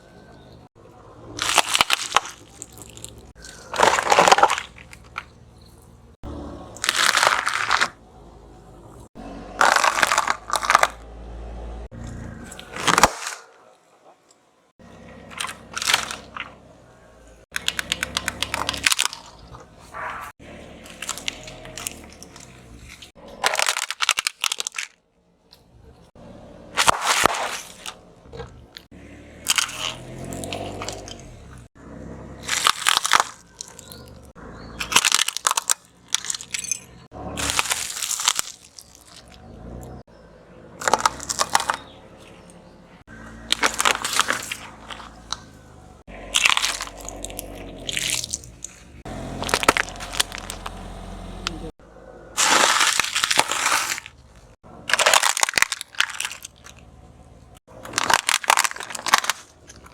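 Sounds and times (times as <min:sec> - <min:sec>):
objects crunching under tyres: 0:00.0 - 0:59.9.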